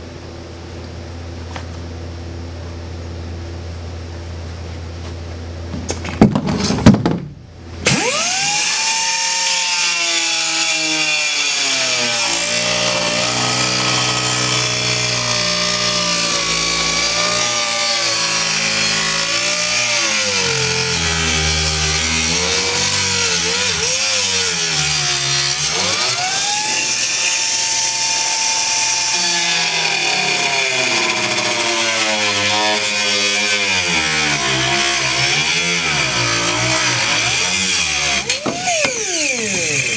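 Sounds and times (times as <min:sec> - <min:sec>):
pneumatic cutter whining: 0:07.8 - 0:39.9.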